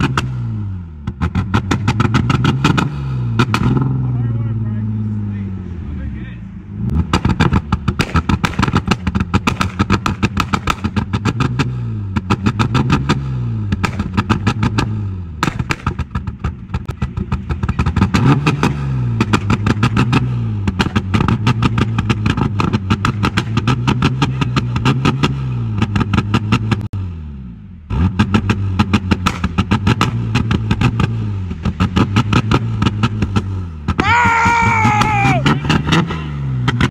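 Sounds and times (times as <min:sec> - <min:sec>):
car engine revving: 0:00.0 - 0:36.9
exhaust bangs and crackles: 0:00.0 - 0:36.9.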